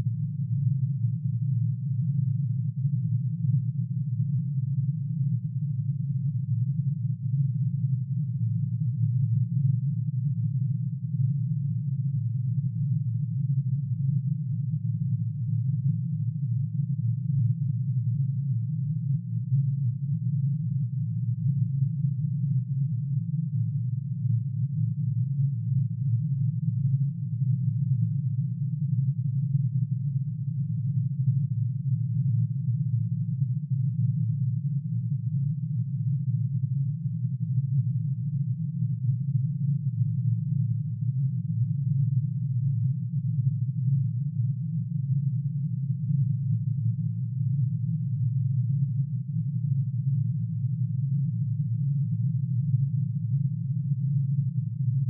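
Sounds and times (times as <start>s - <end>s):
synthesized low hum: 0.0s - 55.0s.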